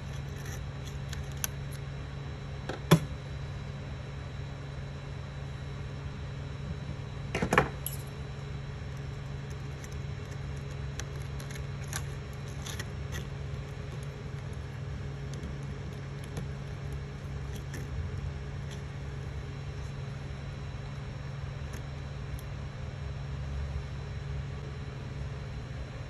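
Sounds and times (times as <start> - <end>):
cooling fans humming: 0.0 - 26.0.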